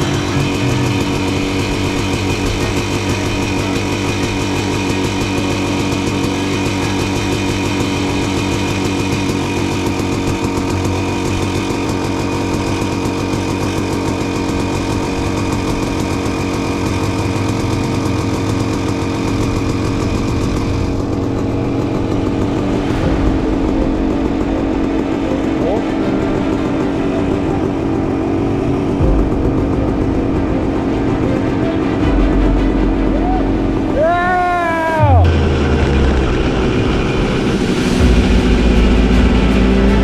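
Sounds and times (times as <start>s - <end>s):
dirt bike engine running: 0.0s - 34.4s, 35.0s - 40.0s.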